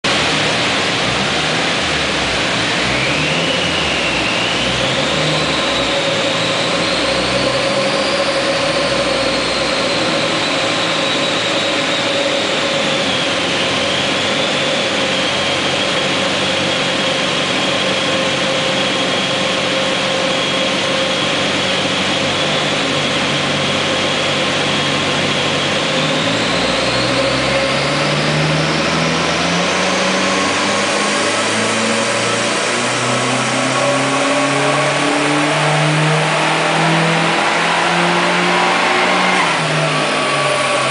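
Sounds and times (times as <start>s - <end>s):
turbocharged engine whine under load: 0.0s - 40.9s.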